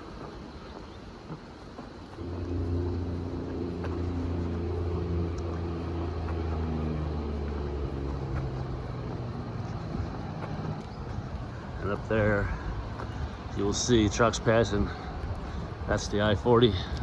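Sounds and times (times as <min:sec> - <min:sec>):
truck traffic drone: 0:02.0 - 0:17.0.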